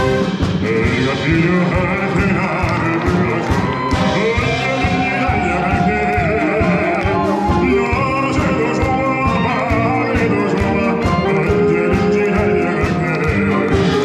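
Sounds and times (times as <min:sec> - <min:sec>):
steady drum beat: 0:00.0 - 0:14.0
wind band playing upbeat song: 0:00.0 - 0:14.0
person singing into microphone: 0:00.5 - 0:14.0.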